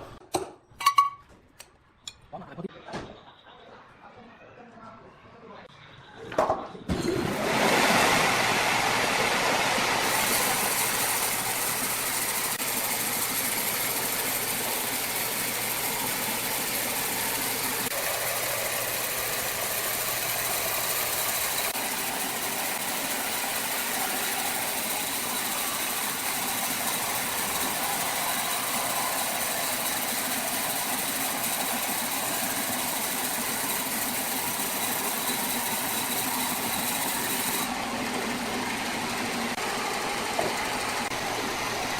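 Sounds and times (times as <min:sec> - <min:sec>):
wood saw cutting a log: 0:07.3 - 0:41.9.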